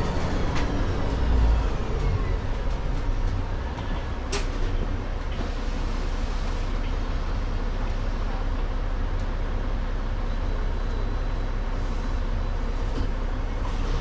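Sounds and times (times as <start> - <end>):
bus diesel engine rumble: 0.0 - 14.0.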